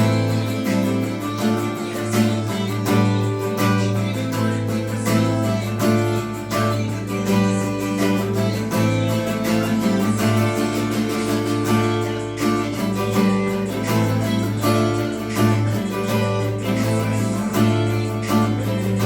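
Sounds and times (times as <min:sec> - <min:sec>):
acoustic guitar melody: 0:00.0 - 0:19.0.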